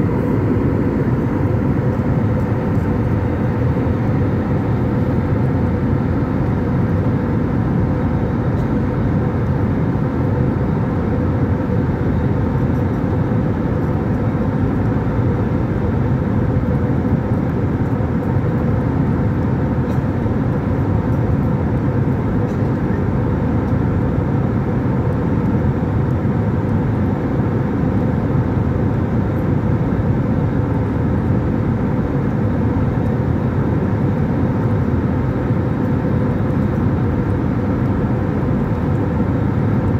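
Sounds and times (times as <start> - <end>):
jet engine and airflow rush: 0.0 - 39.9.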